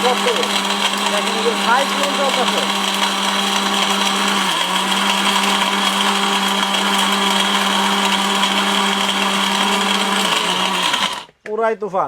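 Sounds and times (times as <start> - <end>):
mixer grinder motor whine: 0.0 - 11.3
spice grinding rush: 0.0 - 11.3.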